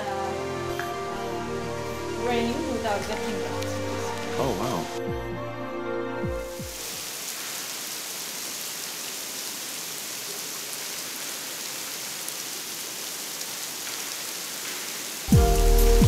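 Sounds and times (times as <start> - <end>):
rain falling on tiled floor: 0.0 - 5.0, 6.6 - 16.0.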